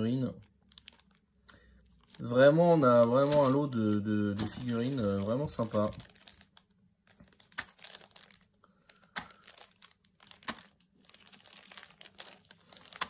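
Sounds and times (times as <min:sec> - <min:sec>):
plastic packaging crinkling: 0:00.4 - 0:13.0.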